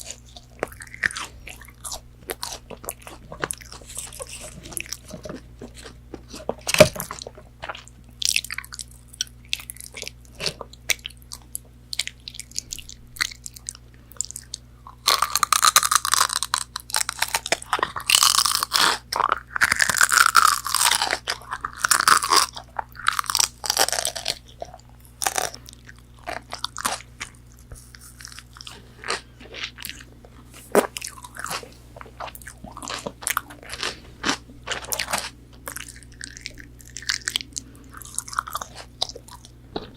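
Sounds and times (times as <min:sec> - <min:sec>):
chicken nuggets being chewed: 0:00.0 - 0:39.9.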